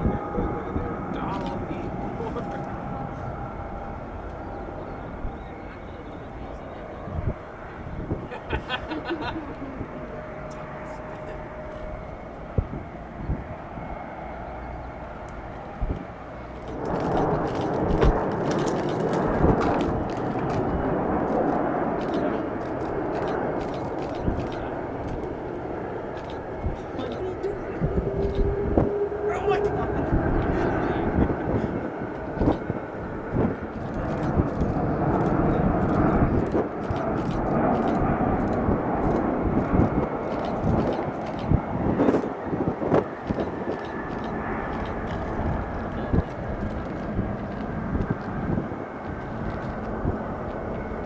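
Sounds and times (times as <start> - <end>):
jet engine roar: 0.0 - 51.0.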